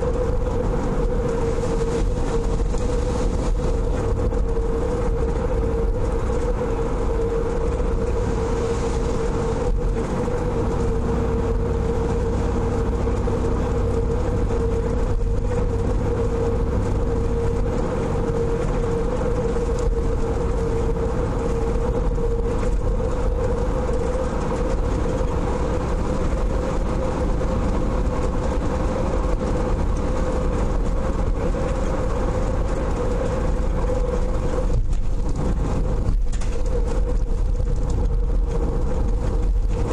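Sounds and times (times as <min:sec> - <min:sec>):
car engine and tyre noise: 0:00.0 - 0:39.9.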